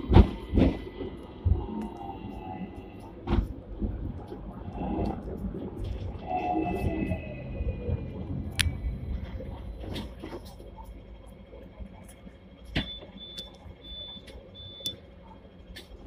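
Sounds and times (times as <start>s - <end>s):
tram low rumble: 0.0s - 16.0s.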